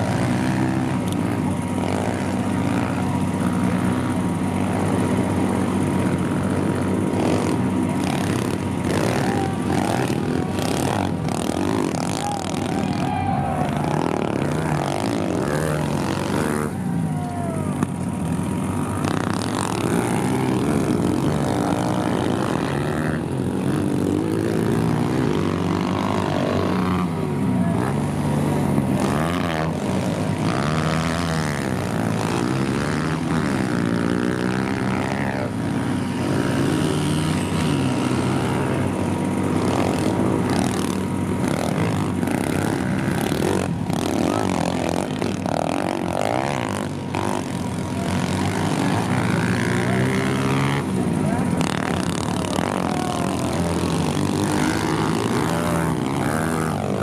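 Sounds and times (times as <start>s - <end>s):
pit bike engines revving: 0.0s - 57.0s.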